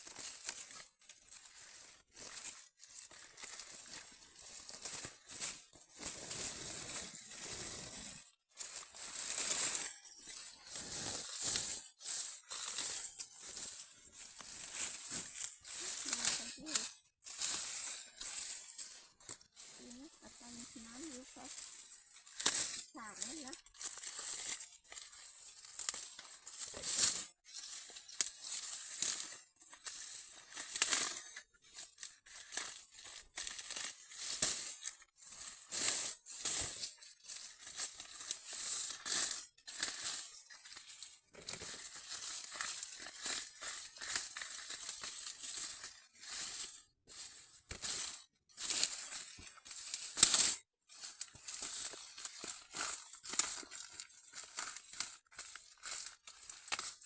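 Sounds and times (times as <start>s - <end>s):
dry corn leaves rustling: 0.0s - 57.0s.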